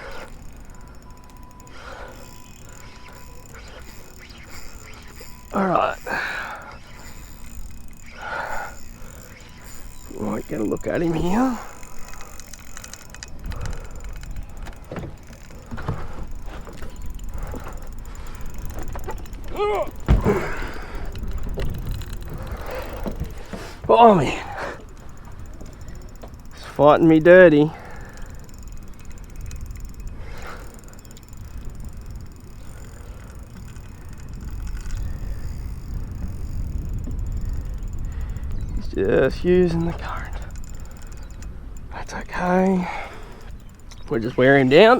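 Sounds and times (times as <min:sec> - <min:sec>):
fishing reel mechanical strokes: 0:00.0 - 0:44.9
wind and water rumble: 0:00.0 - 0:44.9.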